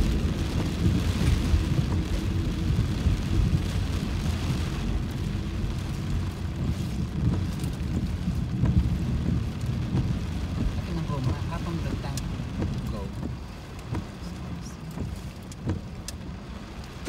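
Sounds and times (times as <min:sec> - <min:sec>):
heavy rain on car roof: 0:00.0 - 0:17.0
low rumble from car and road: 0:00.0 - 0:17.0.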